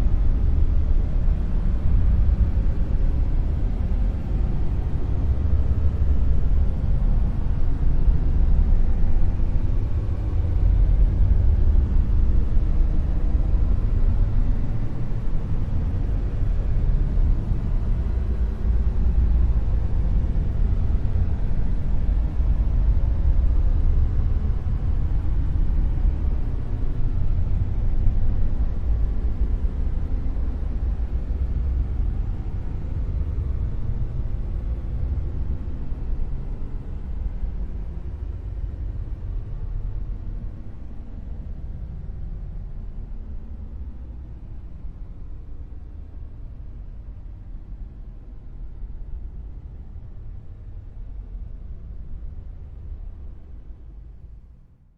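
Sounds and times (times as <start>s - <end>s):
deep rumbling noise hiss: 0.0s - 54.6s.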